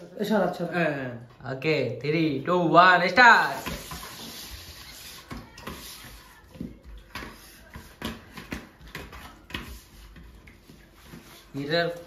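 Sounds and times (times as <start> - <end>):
hands mixing food on steel platters: 0.0 - 12.0.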